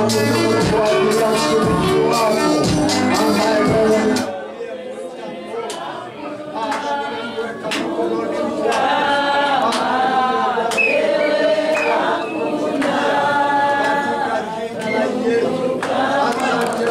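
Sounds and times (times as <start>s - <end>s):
congregation singing: 0.0s - 16.9s.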